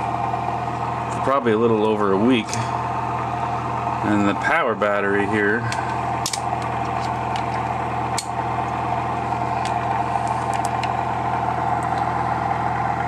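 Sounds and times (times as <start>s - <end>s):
motor humming and buzzing: 0.0s - 13.0s.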